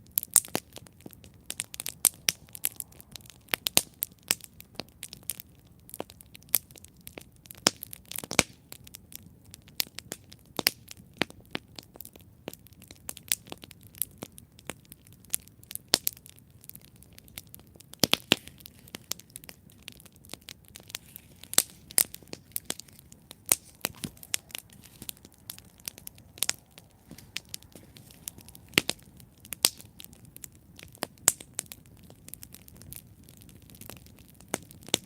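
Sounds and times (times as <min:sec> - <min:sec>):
campfire crackling and popping: 0:00.0 - 0:35.0
soft hiss of burning fire: 0:00.0 - 0:35.0.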